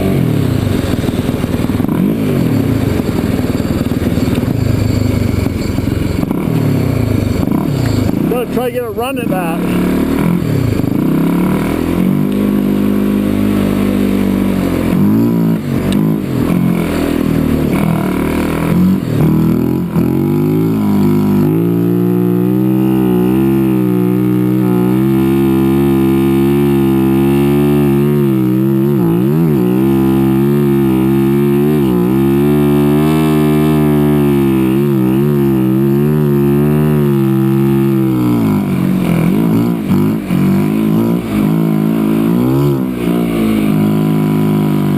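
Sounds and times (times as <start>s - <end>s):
off-road vehicle engine revving: 0.0s - 44.9s.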